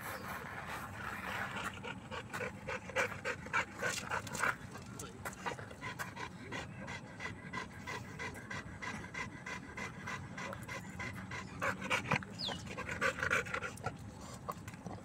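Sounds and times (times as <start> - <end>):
dog panting quickly: 0.3 - 15.0.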